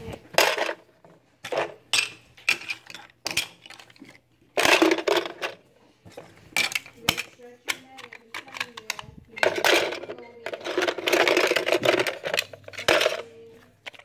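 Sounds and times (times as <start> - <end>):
plastic pieces clacking on table: 0.0 - 14.0.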